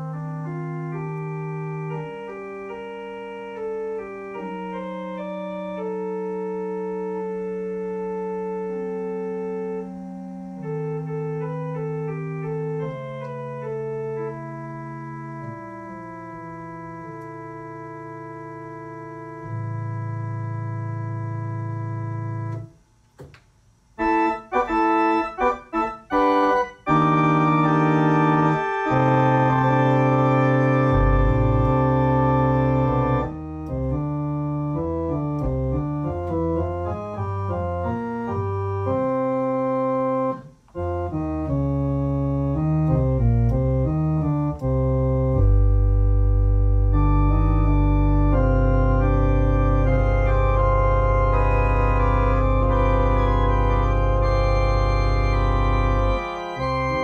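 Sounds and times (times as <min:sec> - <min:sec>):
deep organ bass note: 0:00.0 - 0:22.8, 0:24.0 - 0:57.0
organ playing slow chords: 0:00.0 - 0:22.8, 0:24.0 - 0:57.0.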